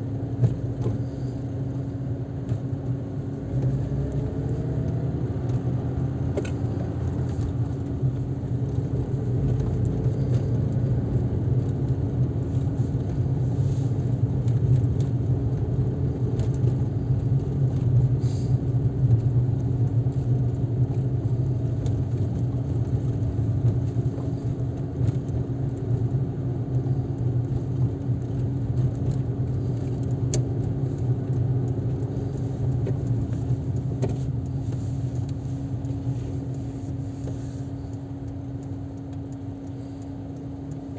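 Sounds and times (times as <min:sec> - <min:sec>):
car engine and tyres rumbling: 0:00.0 - 0:40.9
constant hum: 0:00.0 - 0:40.9.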